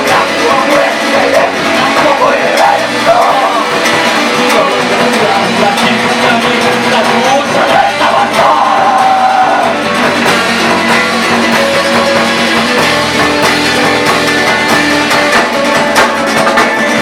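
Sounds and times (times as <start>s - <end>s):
electric guitar: 0.0s - 17.0s
rock band playing live: 0.0s - 17.0s.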